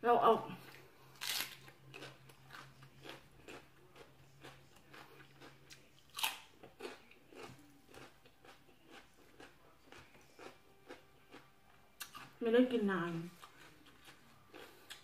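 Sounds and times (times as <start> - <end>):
crunchy chewing: 0.7 - 12.4, 13.4 - 15.0.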